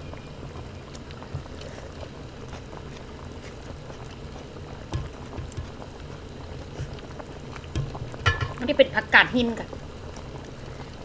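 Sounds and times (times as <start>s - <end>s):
broth bubbling: 0.0s - 11.0s.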